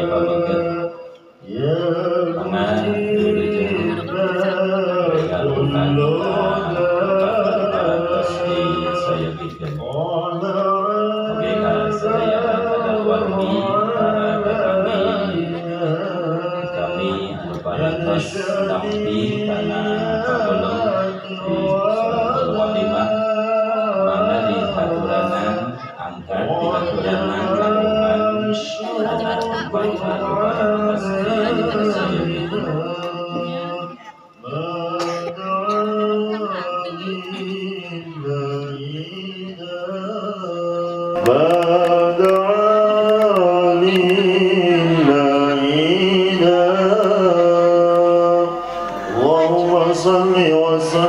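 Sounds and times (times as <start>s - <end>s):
man chanting: 0.0s - 51.0s.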